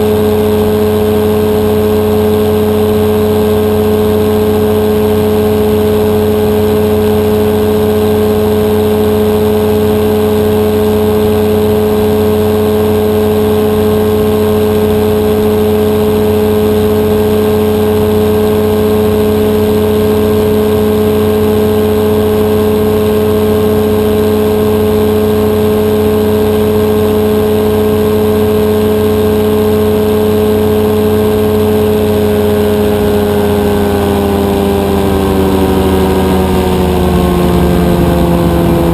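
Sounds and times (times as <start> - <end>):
two-stroke engine and propeller: 0.0 - 38.9.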